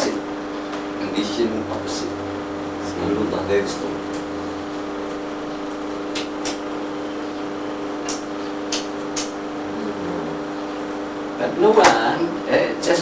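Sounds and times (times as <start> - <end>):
room hum with hiss: 0.0 - 13.0.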